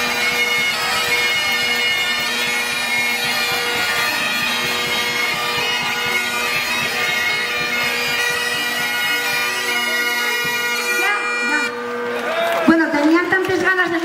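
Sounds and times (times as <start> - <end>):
bagpipes playing a tune: 0.0 - 14.0.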